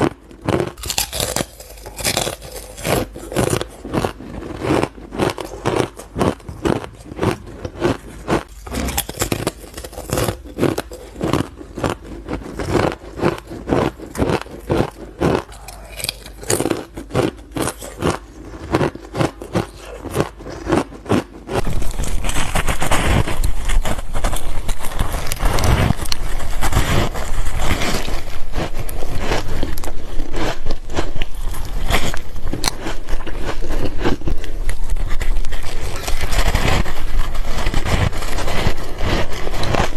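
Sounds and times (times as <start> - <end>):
chewing ice crunches: 0.0 - 39.9
continuous crunching crackle: 0.0 - 39.9.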